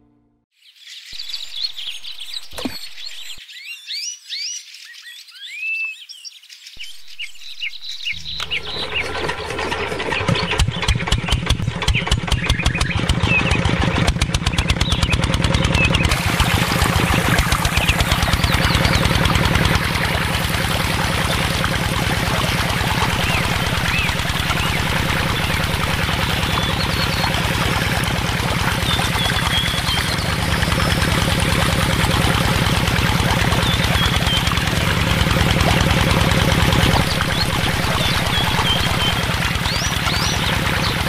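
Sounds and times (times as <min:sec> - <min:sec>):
small water pump motor humming: 0:01.2 - 0:03.4, 0:06.8 - 0:41.0
water stream splashing into basin: 0:01.2 - 0:03.4, 0:06.8 - 0:41.0.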